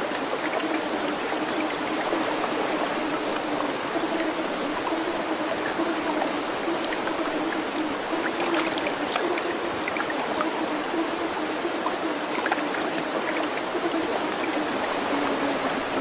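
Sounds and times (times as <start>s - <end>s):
faint steady hum: 0.0s - 16.0s
running water: 0.0s - 16.0s.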